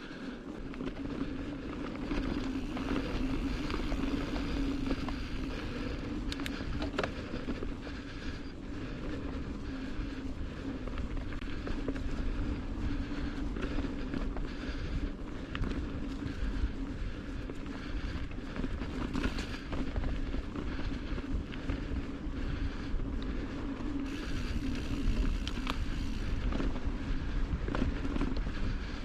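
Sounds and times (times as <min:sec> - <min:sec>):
bike rattles: 0:00.0 - 0:29.0
bike tyre rumble on dirt: 0:00.0 - 0:29.0
constant hum: 0:00.0 - 0:29.0.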